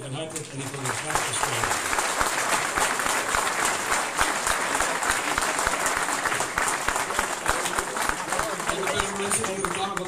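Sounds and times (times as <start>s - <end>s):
audience applauding: 0.3s - 10.0s.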